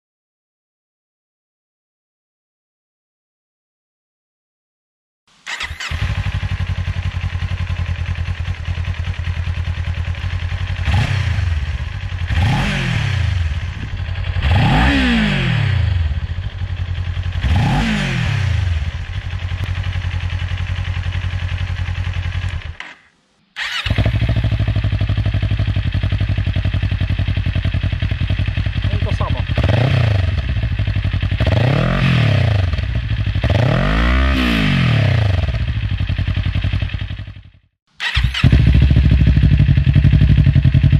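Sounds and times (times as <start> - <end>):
motorcycle engine idling and revving: 5.5 - 40.9.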